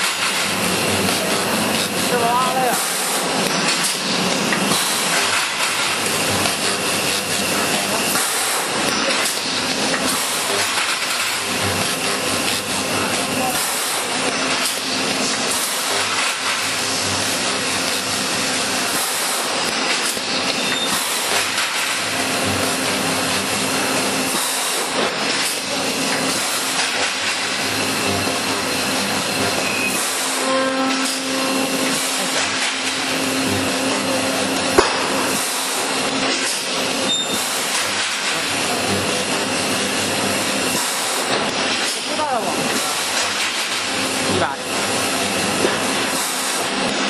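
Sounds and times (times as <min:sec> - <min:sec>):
welding machine rushing noise: 0:00.0 - 0:47.0.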